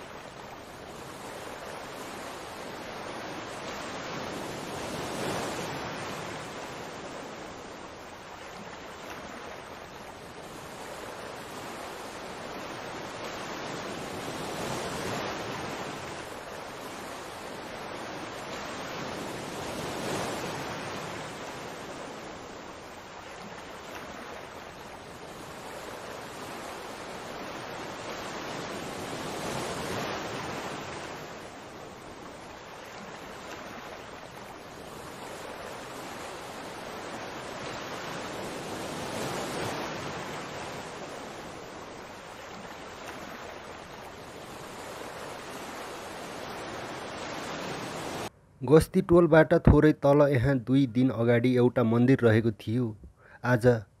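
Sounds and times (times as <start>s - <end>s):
fast-flowing water rushing: 0.0s - 48.9s.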